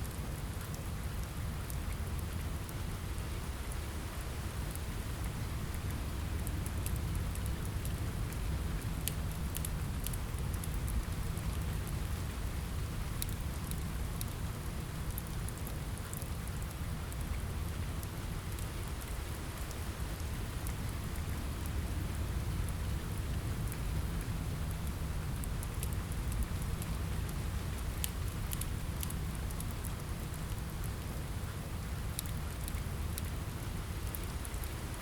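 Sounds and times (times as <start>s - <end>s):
fireplace fire crackling: 0.0s - 35.0s
steady rain hiss: 0.0s - 35.0s.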